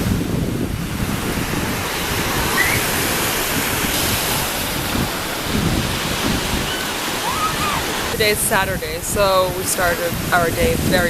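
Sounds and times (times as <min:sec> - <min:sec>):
surf washing on a beach: 0:00.0 - 0:11.0
wind rumbling on microphone: 0:00.0 - 0:11.0.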